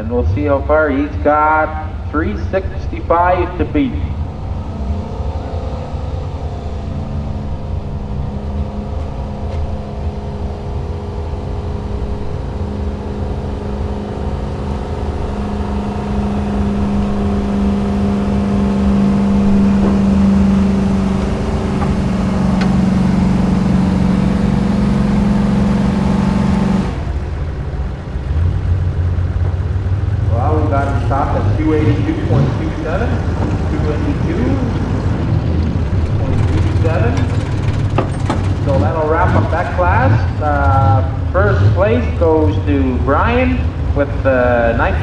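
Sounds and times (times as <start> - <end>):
truck engine running under load: 0.0 - 45.0.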